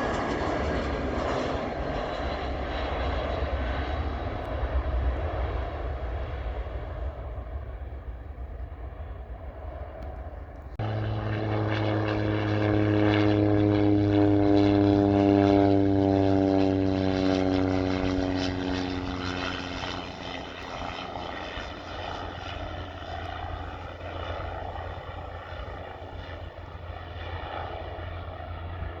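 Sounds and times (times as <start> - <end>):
jet airliner passing: 0.0 - 29.0.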